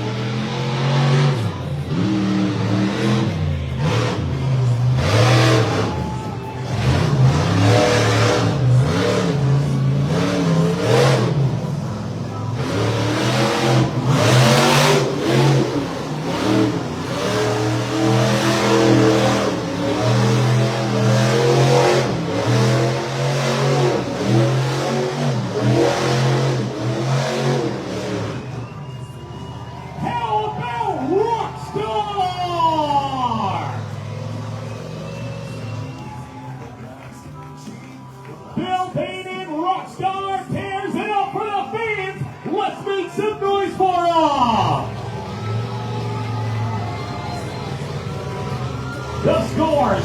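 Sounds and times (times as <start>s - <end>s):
monster truck engine revving: 0.0s - 39.0s, 40.2s - 50.0s.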